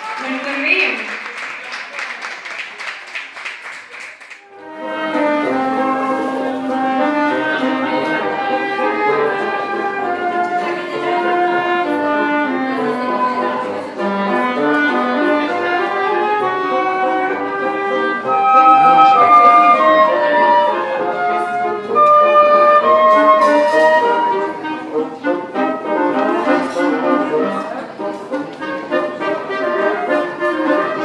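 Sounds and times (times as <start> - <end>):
woodwind quartet playing classical piece: 4.5 - 31.0
bassoon low line: 4.6 - 31.0.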